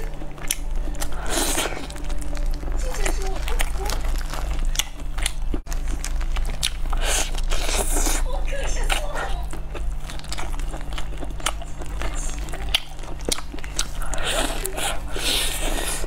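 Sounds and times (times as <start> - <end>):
biting and chewing: 0.0 - 16.0
roast poultry skin crackling tearing: 0.6 - 14.8.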